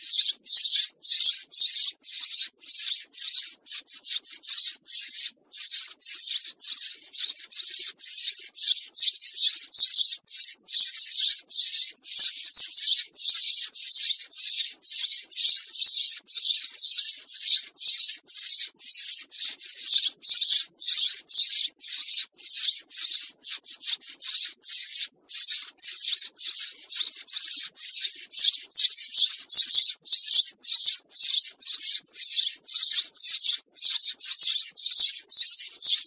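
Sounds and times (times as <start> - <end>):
sparrow chirping: 0.0 - 36.0.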